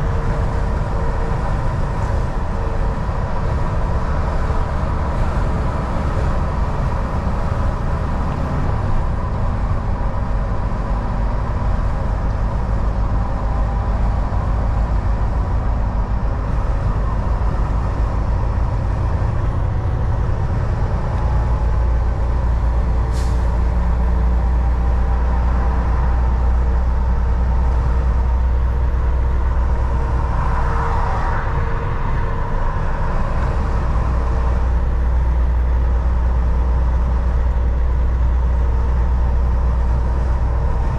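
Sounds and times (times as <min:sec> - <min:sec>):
road noise: 0:00.0 - 0:40.9
truck diesel engine drone: 0:00.0 - 0:40.9.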